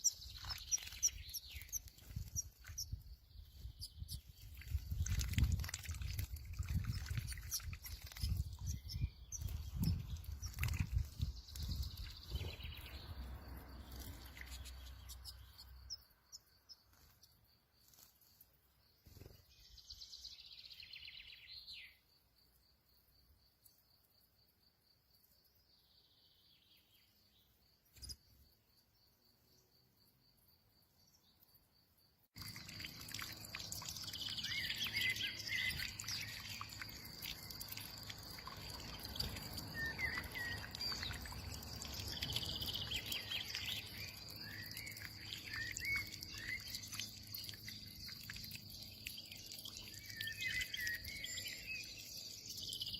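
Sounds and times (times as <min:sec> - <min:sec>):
songbirds chirping: 0:00.0 - 0:24.2, 0:32.4 - 0:52.9.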